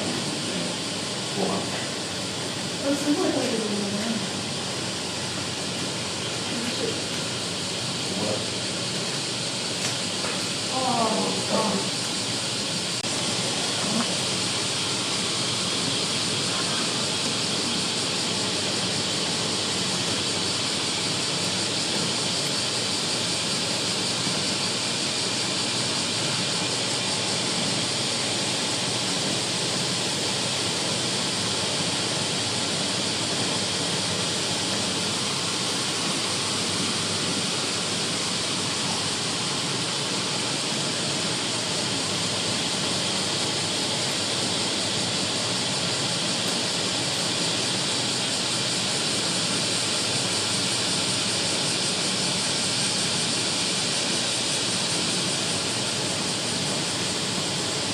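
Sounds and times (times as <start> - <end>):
typhoon rain and wind hiss: 0.0 - 57.9.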